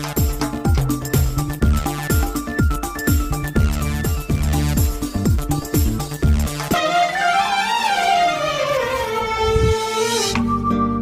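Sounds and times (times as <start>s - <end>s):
held synth notes: 1.6s - 11.0s.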